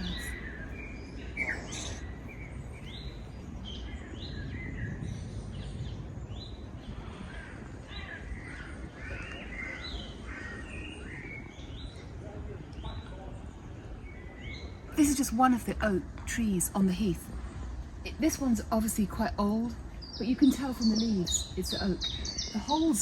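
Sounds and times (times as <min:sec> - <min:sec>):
birds chirping: 0:00.0 - 0:23.0
low background noise: 0:00.0 - 0:23.0.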